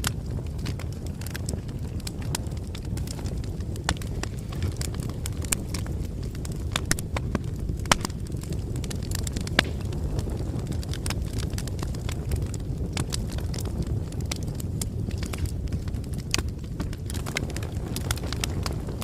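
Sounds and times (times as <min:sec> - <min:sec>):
bonfire crackling: 0:00.0 - 0:19.0.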